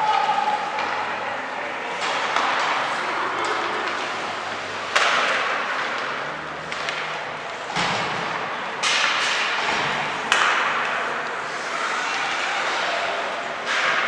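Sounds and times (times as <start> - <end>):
echoing hall game noise: 0.0 - 14.0.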